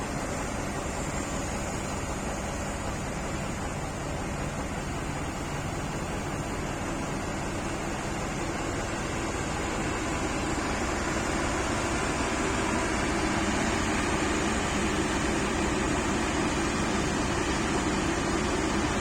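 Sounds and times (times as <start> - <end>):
diesel machinery running: 0.0 - 19.0.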